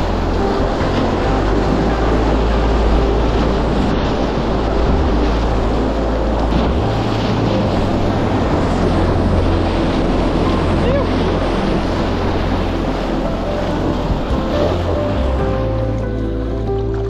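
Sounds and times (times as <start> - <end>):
whitewater rapids rushing: 0.0 - 17.0
wind rumble on microphone: 0.0 - 17.0.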